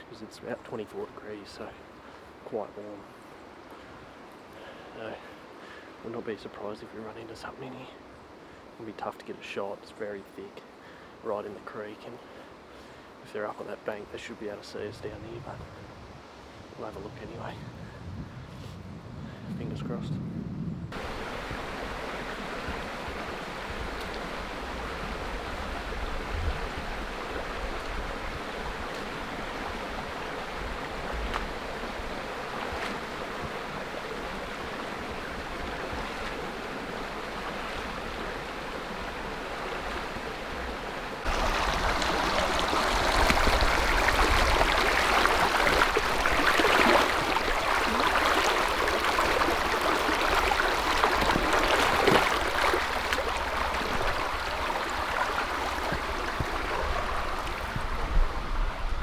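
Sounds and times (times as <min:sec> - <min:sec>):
creek water rushing: 0:00.0 - 0:17.5, 0:20.9 - 0:59.0.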